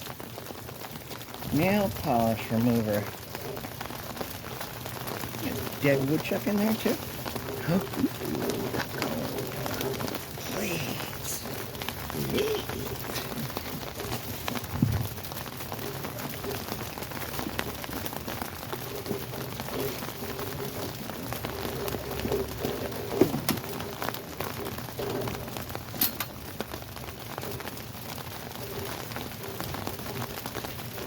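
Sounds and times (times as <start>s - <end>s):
heavy rain pattering: 0.0s - 31.0s.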